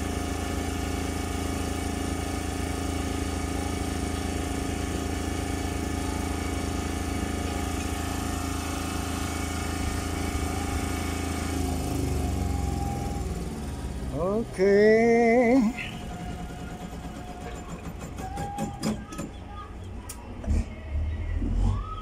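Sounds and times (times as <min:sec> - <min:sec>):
engine idling: 0:00.0 - 0:21.9.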